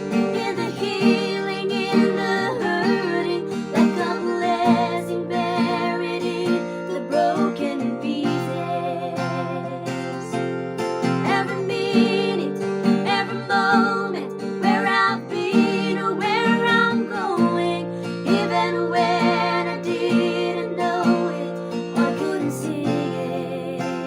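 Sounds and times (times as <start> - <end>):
strummed acoustic guitar: 0.0 - 24.0
woman singing with vibrato: 0.1 - 10.4, 11.2 - 24.0.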